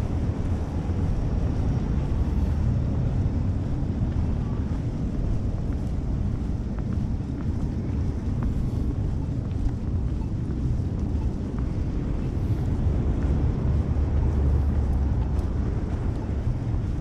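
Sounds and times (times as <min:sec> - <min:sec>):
faint city street noise: 0:00.0 - 0:17.0
wind buffeting microphone: 0:00.0 - 0:17.0.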